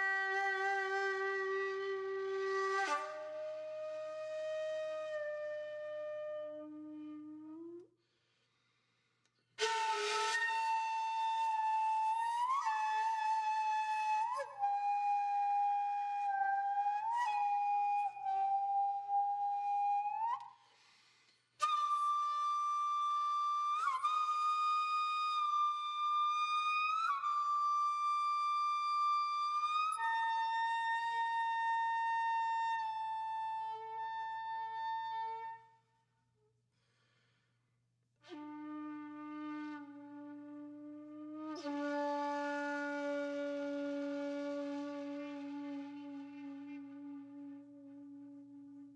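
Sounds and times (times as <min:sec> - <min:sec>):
solo flute playing: 0:00.0 - 0:07.9, 0:09.6 - 0:21.0, 0:21.6 - 0:36.0, 0:38.2 - 0:48.9.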